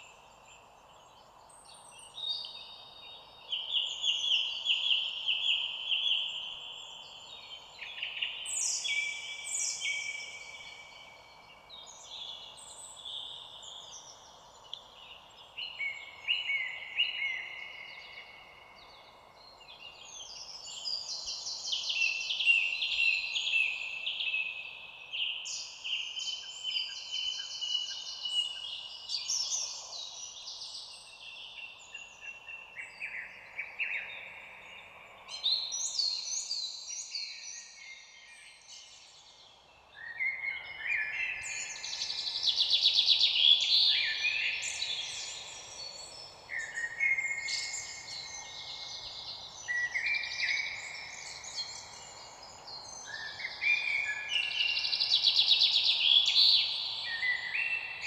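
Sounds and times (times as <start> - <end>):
birds singing trills: 0.0 - 58.0
faint steady hiss: 0.0 - 58.0.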